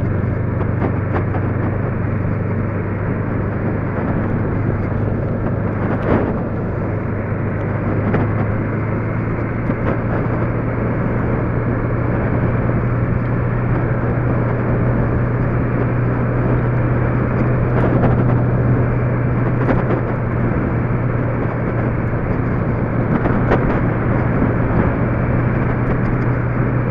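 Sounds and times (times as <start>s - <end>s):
road and tyre noise: 0.0s - 26.9s
vehicle engine drone: 0.0s - 26.9s.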